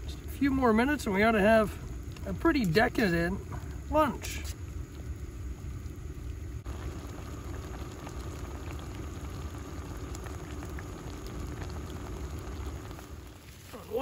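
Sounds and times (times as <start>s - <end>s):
low rumble of flame: 0.0s - 14.0s
pot bubbling: 0.0s - 14.0s.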